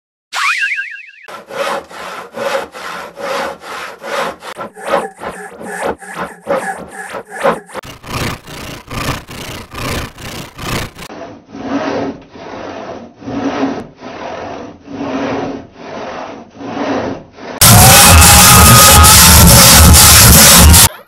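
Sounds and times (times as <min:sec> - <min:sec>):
hand saw cutting wood: 0:01.3 - 0:21.0.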